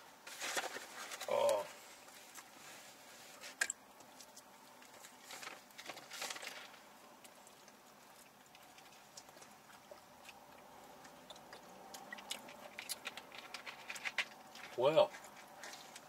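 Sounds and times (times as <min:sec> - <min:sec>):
people chewing food: 0:00.2 - 0:16.0.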